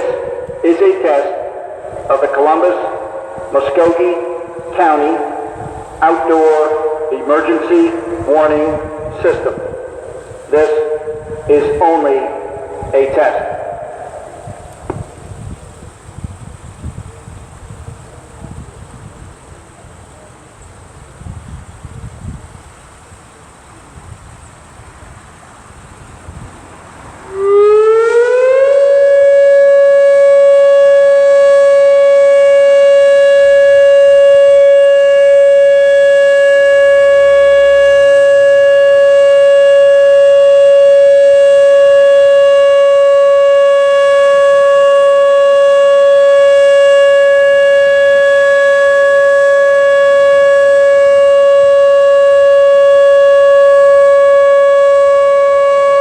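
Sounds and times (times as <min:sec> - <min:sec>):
tornado siren steady tone: 0:00.0 - 0:56.0.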